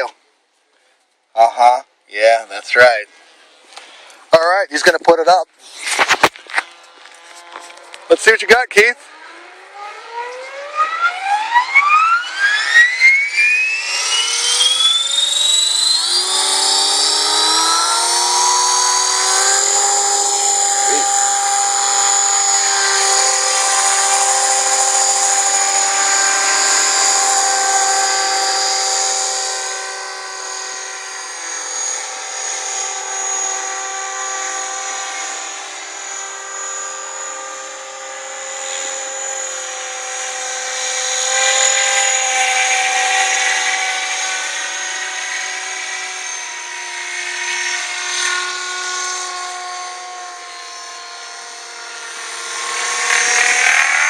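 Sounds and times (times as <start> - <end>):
helicopter rotor noise: 1.4 - 54.0
model helicopter motor whining: 2.5 - 54.0.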